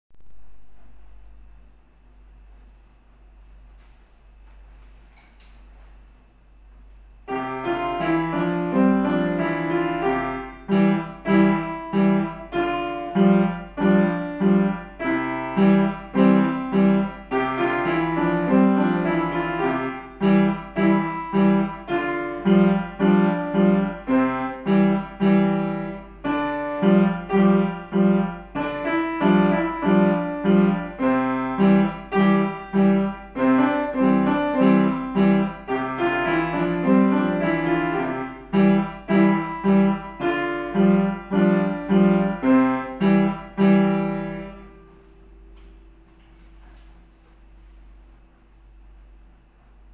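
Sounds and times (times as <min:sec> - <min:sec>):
upright piano playing chords: 0:07.0 - 0:47.7.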